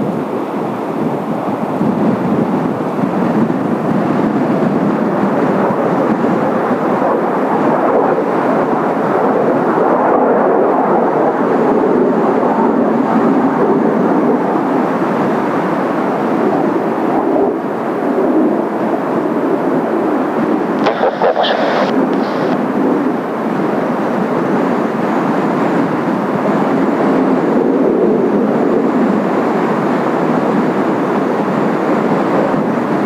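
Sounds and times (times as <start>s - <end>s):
jet engines flying overhead: 0.0s - 33.0s.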